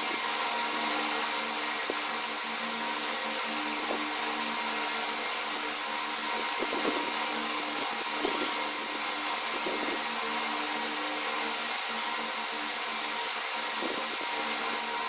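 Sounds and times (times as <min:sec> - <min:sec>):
machine hum with hiss: 0:00.0 - 0:15.0.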